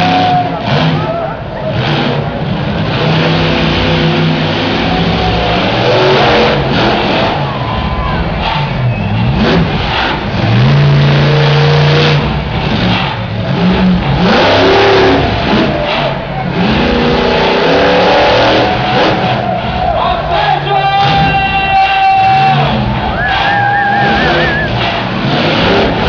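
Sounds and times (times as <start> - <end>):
loud steady noise: 0.0 - 26.0
monster truck engine revving: 0.0 - 26.0.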